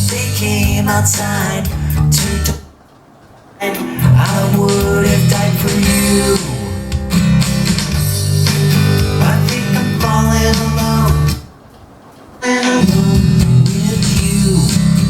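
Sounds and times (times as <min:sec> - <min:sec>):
song with strummed guitar and bass: 0:00.0 - 0:02.6, 0:03.7 - 0:11.5, 0:12.5 - 0:15.0.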